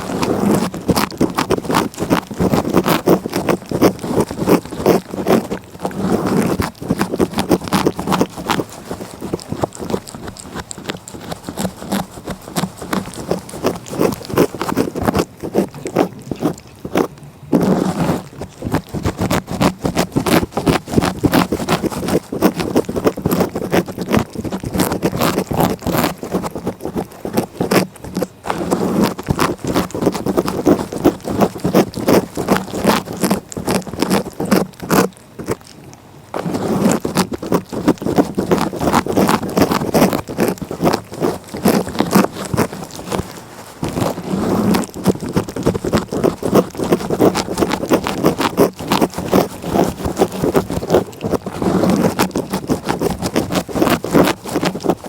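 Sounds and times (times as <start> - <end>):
cat tongue licking microphone: 0.0 - 55.0.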